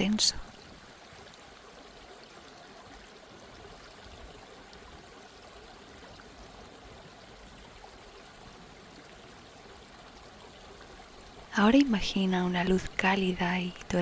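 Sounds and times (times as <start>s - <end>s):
flowing water: 0.0s - 14.0s.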